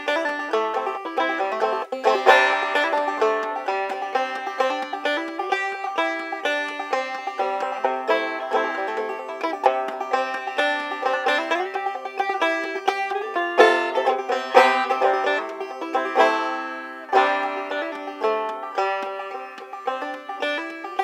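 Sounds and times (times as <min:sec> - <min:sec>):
banjo plucked notes: 0:00.0 - 0:21.0.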